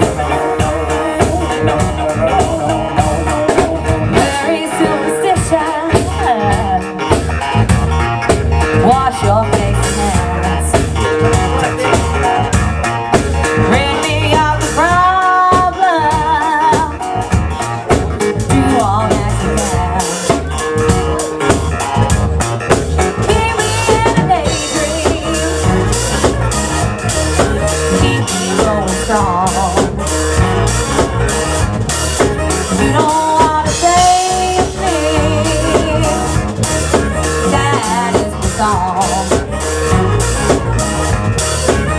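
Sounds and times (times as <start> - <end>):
person singing: 0.0 - 7.3, 8.6 - 12.3, 13.4 - 22.1, 23.0 - 41.0
drum kit beat: 0.0 - 41.9
live band playing: 0.0 - 41.9.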